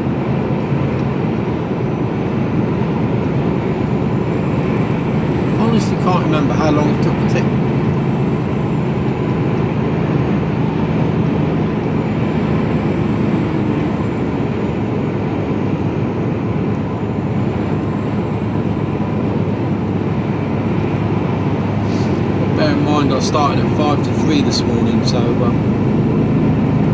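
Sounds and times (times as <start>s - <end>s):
road noise: 0.0s - 26.9s
truck engine: 0.0s - 26.9s.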